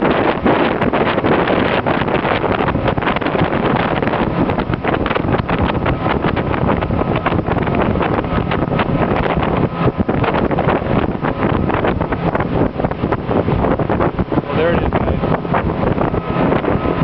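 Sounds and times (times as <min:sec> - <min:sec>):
boat engine and wake rushing: 0:00.0 - 0:17.0
wind buffeting microphone: 0:00.0 - 0:17.0.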